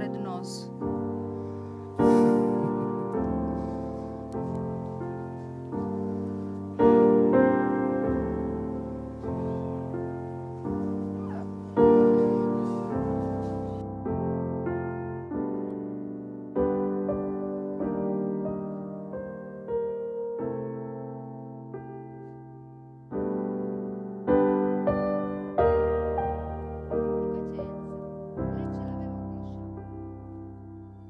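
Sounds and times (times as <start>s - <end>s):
slow piano chords: 0.0s - 31.0s.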